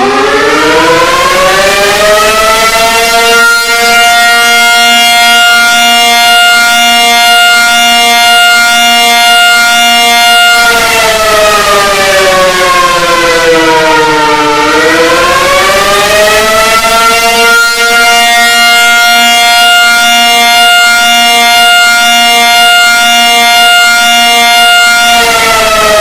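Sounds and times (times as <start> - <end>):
alarm siren: 0.0 - 26.0.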